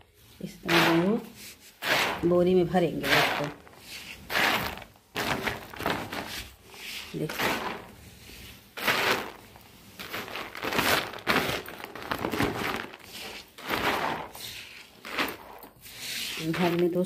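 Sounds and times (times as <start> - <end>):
grain swishing: 0.1 - 17.0
plastic sack crinkling: 0.7 - 17.0.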